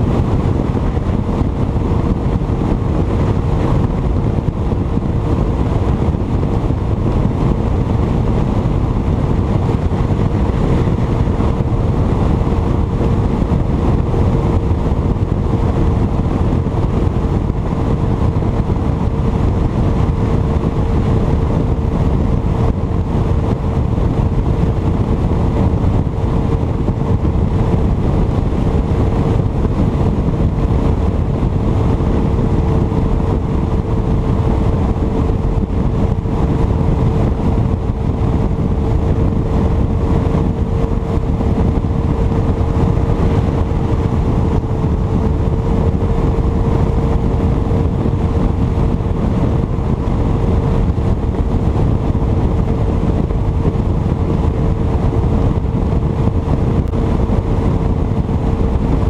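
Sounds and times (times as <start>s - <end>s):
outboard motor hum: 0.0s - 59.0s
wind on microphone: 0.0s - 59.0s.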